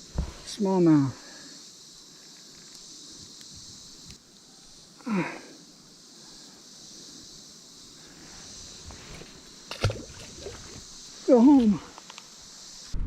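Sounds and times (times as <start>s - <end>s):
high-pitched insect buzz: 0.0s - 13.0s.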